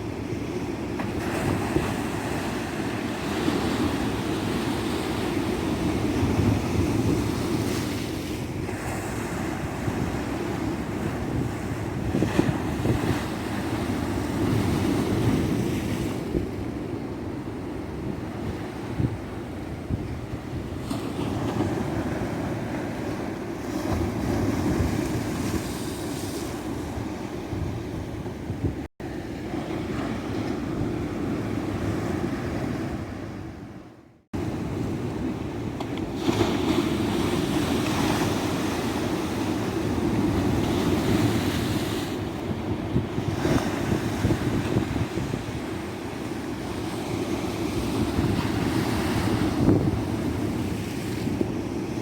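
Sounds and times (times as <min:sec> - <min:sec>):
ocean waves breaking on beach: 0:00.0 - 0:52.0
wind buffeting microphone: 0:01.1 - 0:28.9, 0:34.4 - 0:52.0.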